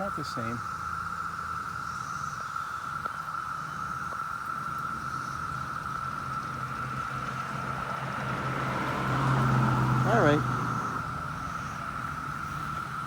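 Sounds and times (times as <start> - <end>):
cicadas chorus drone: 0.0 - 13.0.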